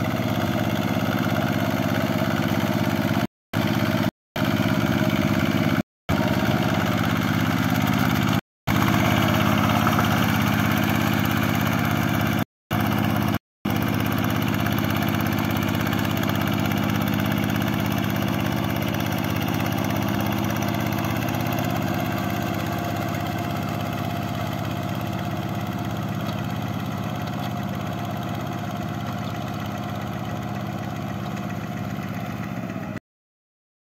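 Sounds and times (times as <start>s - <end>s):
diesel tractor engine running: 0.0s - 33.0s.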